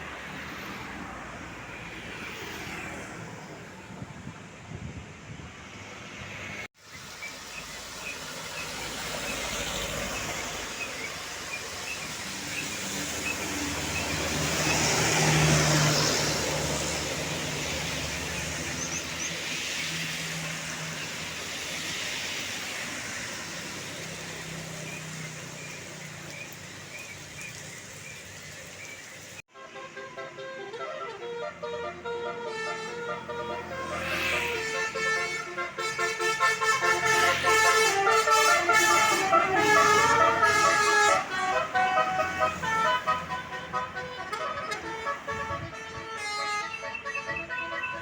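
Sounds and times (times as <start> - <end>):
heavy vehicle passing: 0.0 - 6.7, 7.3 - 29.4, 32.8 - 48.0.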